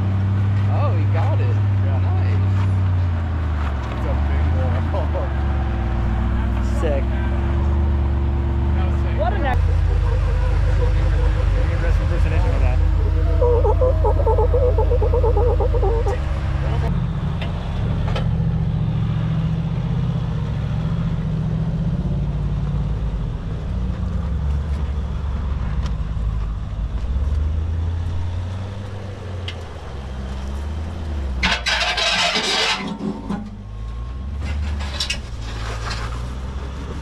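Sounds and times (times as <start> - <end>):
engine running at low revs: 0.0 - 31.5.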